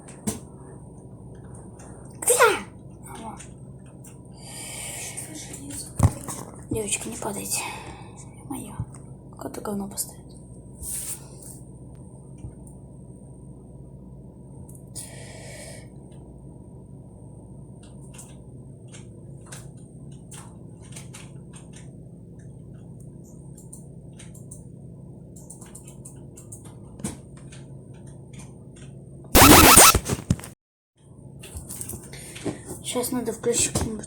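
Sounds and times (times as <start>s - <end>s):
low electrical hum: 0.0s - 29.5s.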